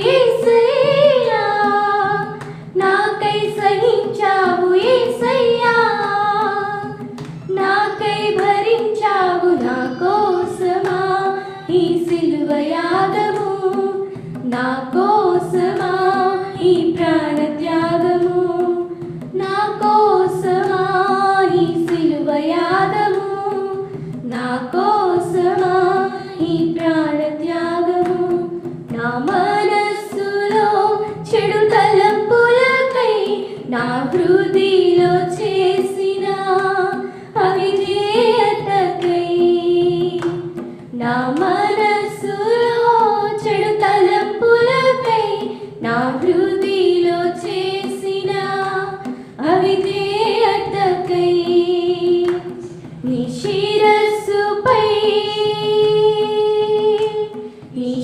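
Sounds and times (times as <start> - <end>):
women singing a hymn: 0.0 - 58.0.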